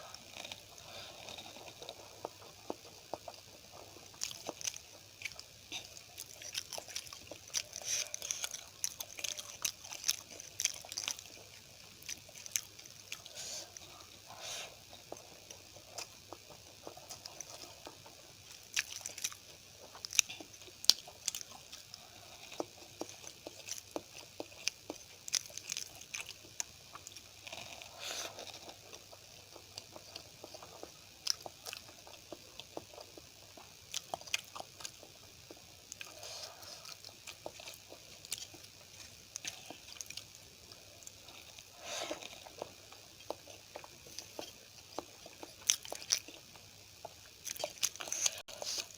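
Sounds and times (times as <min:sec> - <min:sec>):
chewing and biting: 0:00.0 - 0:48.9.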